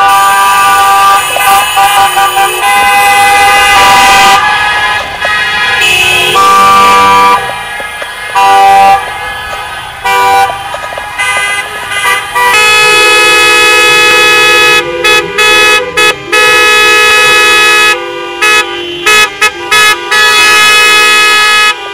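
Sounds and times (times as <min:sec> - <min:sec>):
car horns honking: 0:00.0 - 0:21.9.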